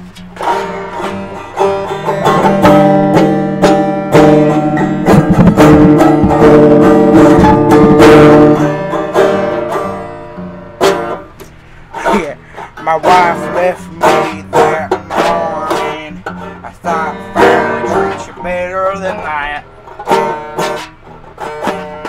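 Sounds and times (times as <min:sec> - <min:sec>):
plucked string instruments: 0:00.0 - 0:22.0.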